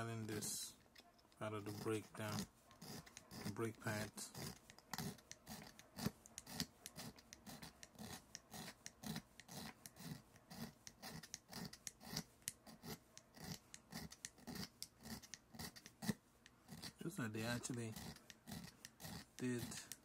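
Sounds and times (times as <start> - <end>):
hand file scraping brake pad: 0.0 - 20.0.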